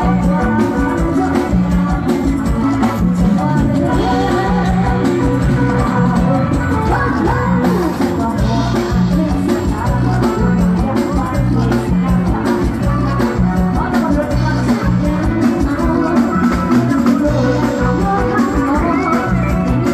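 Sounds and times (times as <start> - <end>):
live band music: 0.0 - 19.9
person singing: 0.0 - 19.9.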